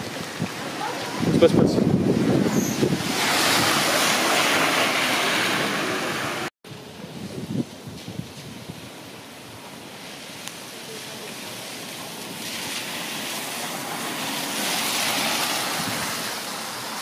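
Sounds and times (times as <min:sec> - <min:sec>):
car tyres hissing through water: 0:00.0 - 0:06.5, 0:08.8 - 0:17.0
flowing storm runoff: 0:00.0 - 0:17.0
heavy rain: 0:00.0 - 0:17.0.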